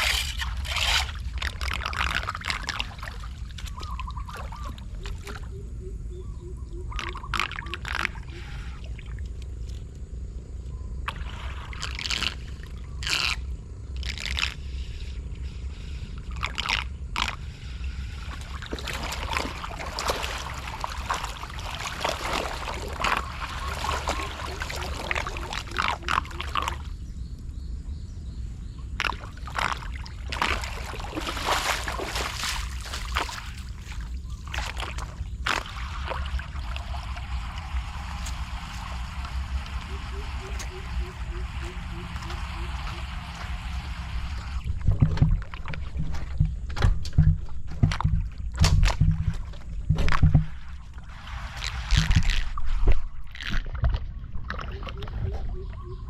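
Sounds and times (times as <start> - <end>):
floodwater splashing and sloshing: 0.0 - 5.6, 6.2 - 10.0, 11.0 - 13.4, 16.2 - 27.0, 29.0 - 55.9
water trickling and gurgling: 0.0 - 10.0, 16.2 - 27.3, 28.6 - 56.0
steady low rumble: 8.1 - 56.0.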